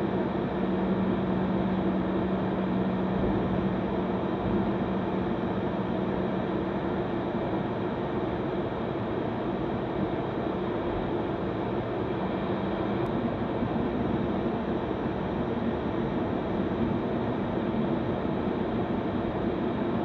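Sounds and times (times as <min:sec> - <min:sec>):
jet cabin engine noise: 0:00.0 - 0:20.0.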